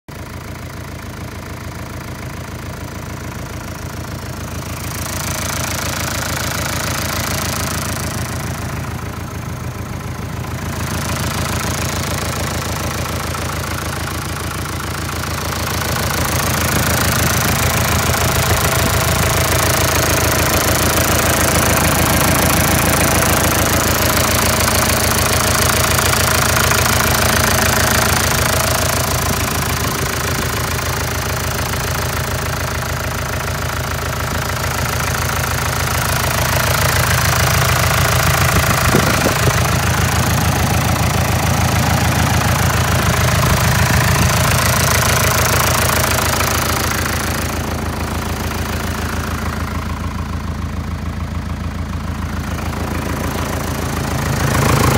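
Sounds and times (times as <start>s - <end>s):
diesel engine idling: 0.1s - 54.9s.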